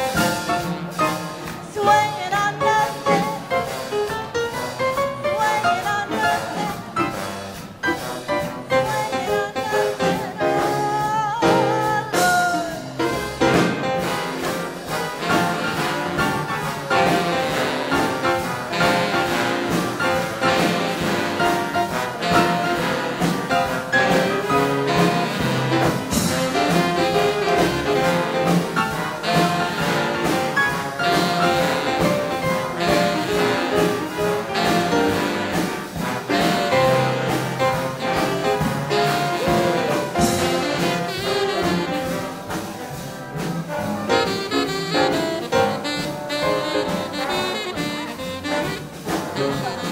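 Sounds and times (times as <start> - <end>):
big band swing jazz: 0.0 - 49.9.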